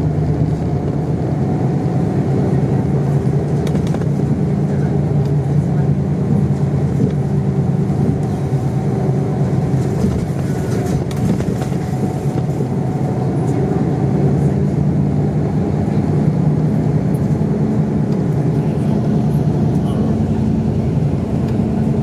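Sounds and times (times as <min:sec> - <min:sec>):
bus engine running: 0:00.0 - 0:22.0
road noise: 0:00.0 - 0:22.0.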